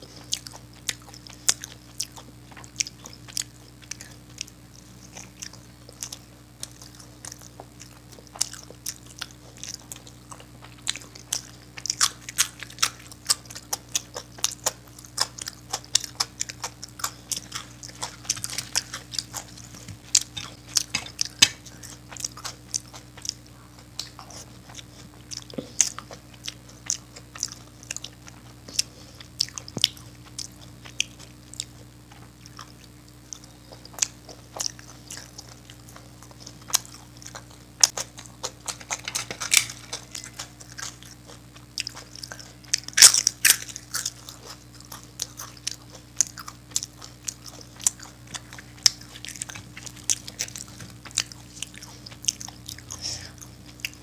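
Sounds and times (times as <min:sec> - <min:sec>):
faint low hum: 0:00.0 - 0:54.0
person chewing food: 0:00.0 - 0:54.0.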